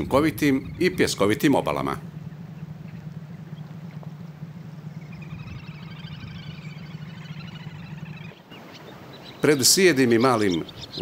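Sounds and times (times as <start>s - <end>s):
low background rumble: 0.0s - 9.7s
bird trilling: 0.0s - 11.0s.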